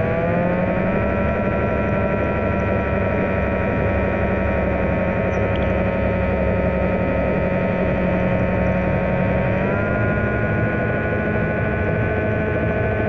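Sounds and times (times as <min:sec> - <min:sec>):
low hum: 0:00.0 - 0:13.0
underwater scooter motor whine: 0:00.0 - 0:13.0.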